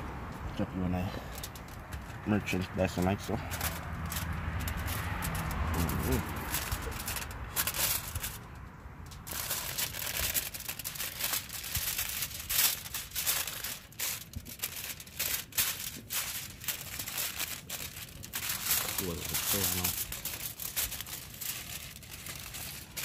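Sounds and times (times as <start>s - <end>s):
aluminium foil crinkling: 1.1s - 23.0s.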